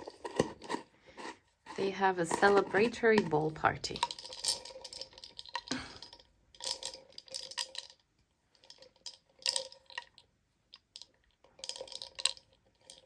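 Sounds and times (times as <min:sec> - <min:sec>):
tiny balls rattling in container: 0:01.7 - 0:13.0.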